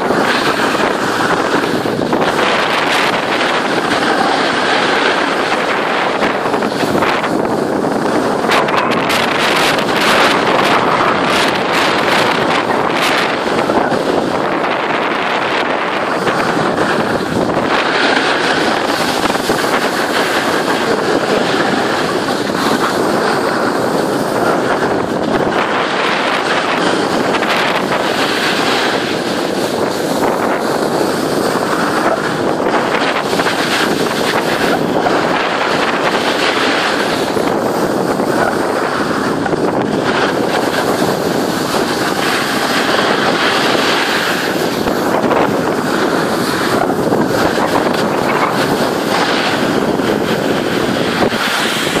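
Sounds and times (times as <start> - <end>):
snowboard scraping over snow: 0.0 - 52.0
wind buffeting microphone: 0.0 - 52.0.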